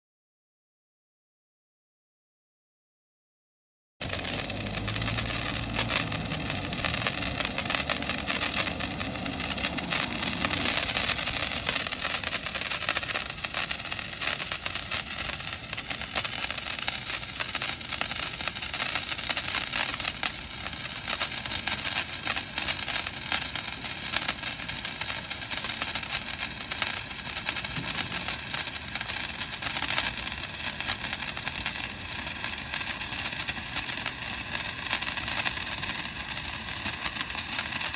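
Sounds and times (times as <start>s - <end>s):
fine crackling: 4.0s - 37.9s
firework sparks hissing: 4.0s - 37.9s.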